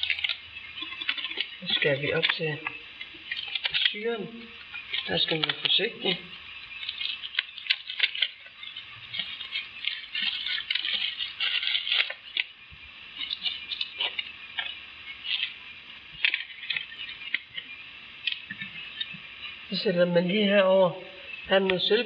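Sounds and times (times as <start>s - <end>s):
plastic rustling: 0.0s - 19.8s.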